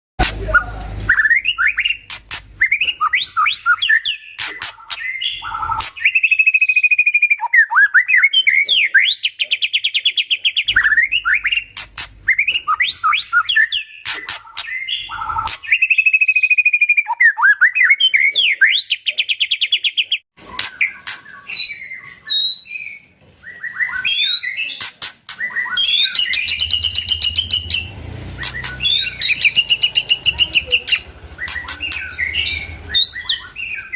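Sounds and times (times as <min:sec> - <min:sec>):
bird whistled song: 0:00.4 - 0:33.9.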